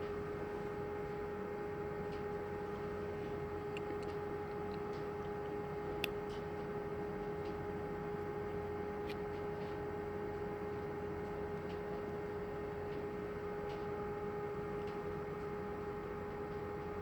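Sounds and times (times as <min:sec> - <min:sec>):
steady humming tone: 0:00.0 - 0:17.0.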